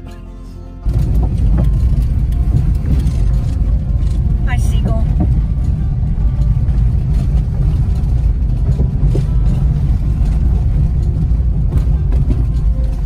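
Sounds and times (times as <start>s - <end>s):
car tyres and wind rumble: 0.8s - 13.0s.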